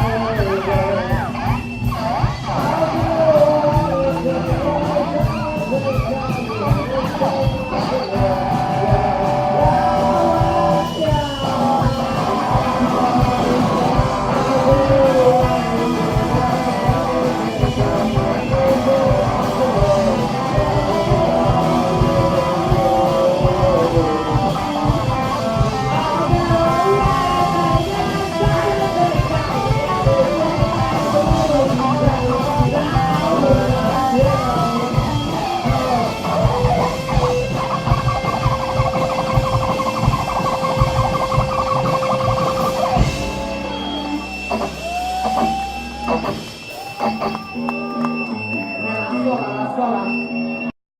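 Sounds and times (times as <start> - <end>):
person singing: 0.0 - 48.0
electric guitar: 0.0 - 50.7
drums: 0.0 - 50.8.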